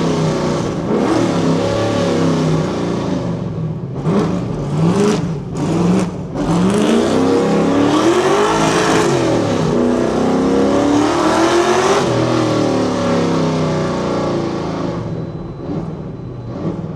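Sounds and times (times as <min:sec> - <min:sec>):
car engine at full throttle: 0:00.0 - 0:16.9.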